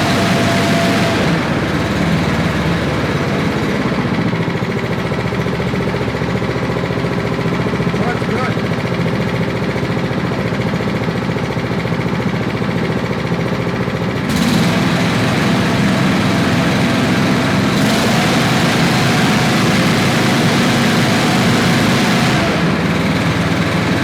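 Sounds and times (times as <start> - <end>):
leaf blower engine revving: 0.0 - 12.6, 14.1 - 24.0.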